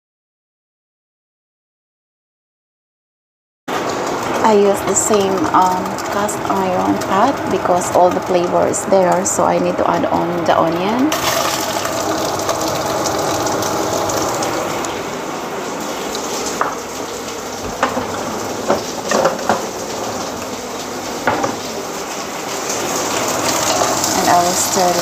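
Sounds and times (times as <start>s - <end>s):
onions sizzling in fat: 3.7s - 25.0s.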